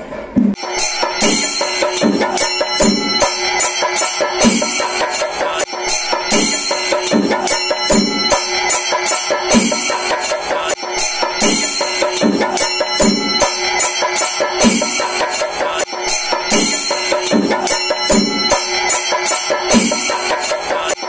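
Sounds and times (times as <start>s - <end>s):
drum ensemble playing fast rhythm: 0.3s - 21.0s.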